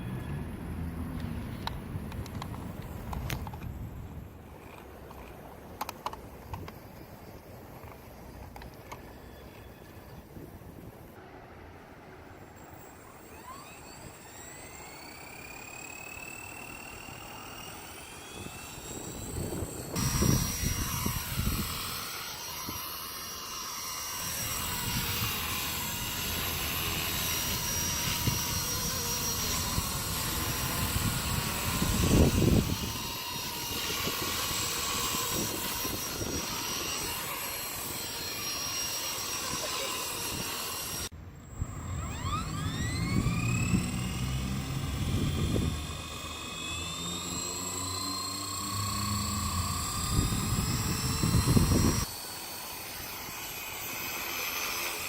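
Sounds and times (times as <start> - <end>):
rc helicopter rotor whine: 0.0 - 55.0.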